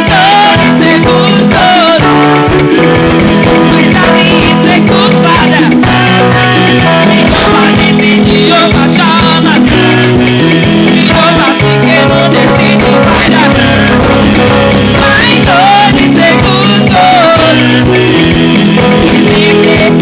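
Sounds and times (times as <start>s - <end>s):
guitar and bass: 0.0s - 20.0s
person singing: 0.0s - 20.0s.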